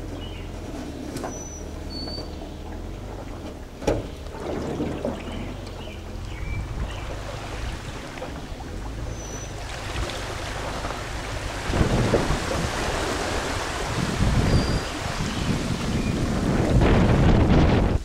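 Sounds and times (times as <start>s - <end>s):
low rumbling: 0.0s - 18.0s
water sloshing and splashing: 0.6s - 17.1s.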